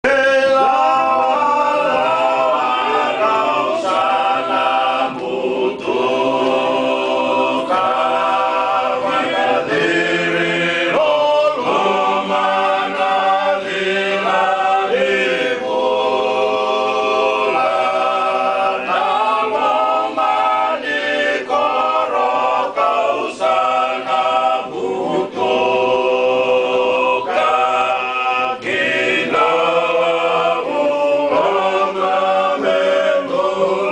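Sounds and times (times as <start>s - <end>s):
men singing in harmony: 0.0s - 33.9s.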